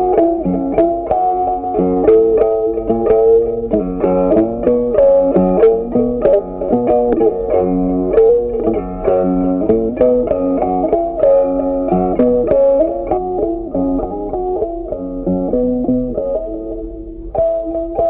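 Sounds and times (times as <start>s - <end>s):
picked guitar tune: 0.0s - 18.0s.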